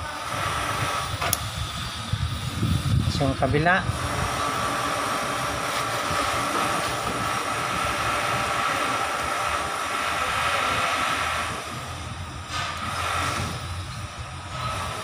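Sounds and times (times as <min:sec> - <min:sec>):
mechanical drone with high whine: 0:00.0 - 0:15.0.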